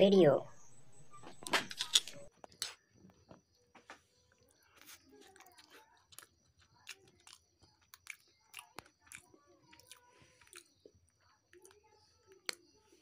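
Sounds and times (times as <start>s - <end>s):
quiet chewing and smacks: 2.2s - 13.0s.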